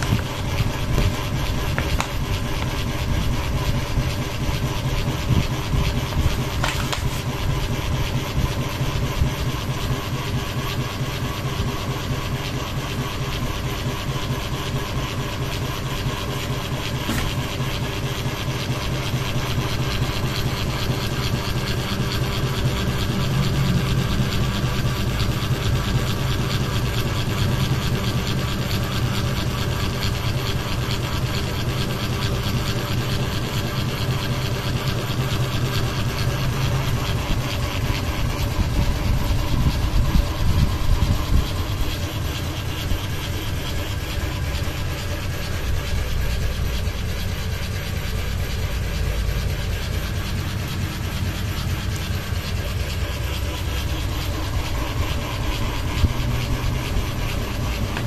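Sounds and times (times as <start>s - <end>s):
ceiling fan rattling and humming: 0.0s - 58.0s.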